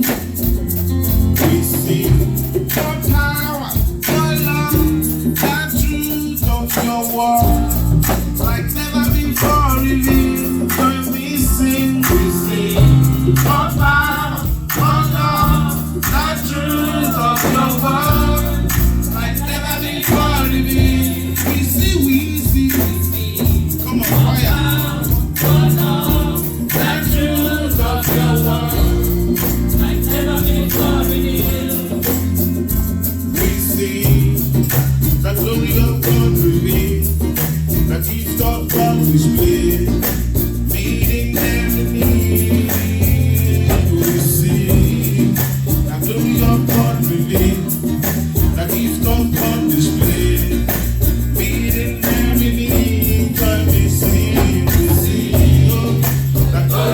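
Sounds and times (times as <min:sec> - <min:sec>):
band playing: 0:00.0 - 0:56.9
tambourine: 0:00.0 - 0:56.9
voices singing gospel: 0:00.0 - 0:56.9.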